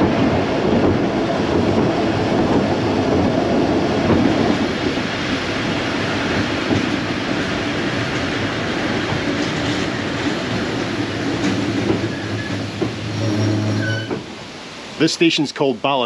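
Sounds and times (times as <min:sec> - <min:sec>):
train wheels clattering on rails: 0:00.0 - 0:14.5.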